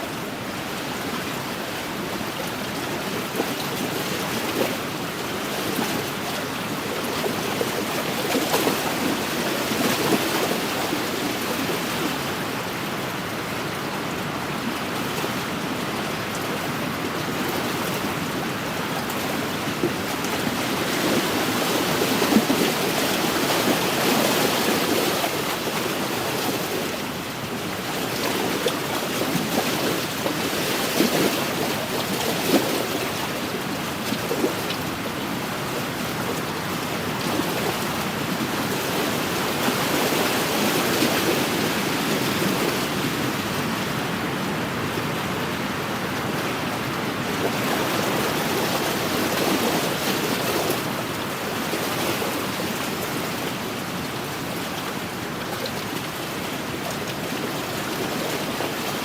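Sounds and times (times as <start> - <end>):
waves lapping against shore: 0.0 - 59.0.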